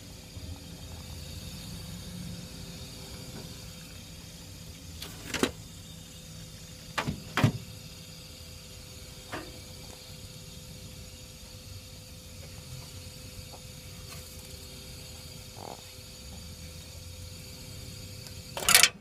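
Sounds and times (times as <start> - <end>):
electrical hum and whine: 0.0 - 19.0.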